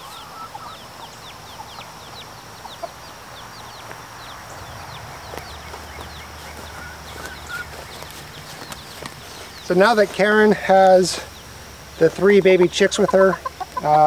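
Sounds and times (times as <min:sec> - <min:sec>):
chicks peeping: 0:00.0 - 0:14.0
hens clucking: 0:00.0 - 0:14.0.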